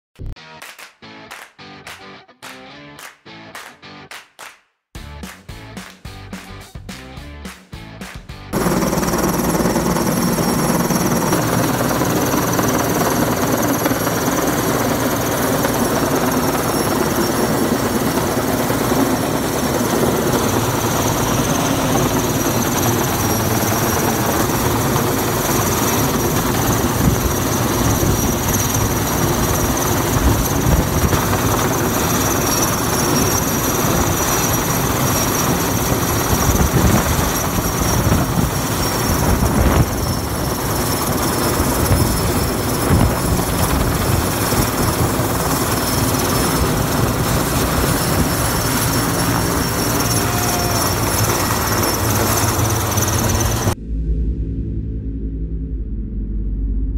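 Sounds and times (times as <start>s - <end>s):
helicopter rotor and engines: 7.8s - 56.9s
high-pitched whine: 8.6s - 56.9s.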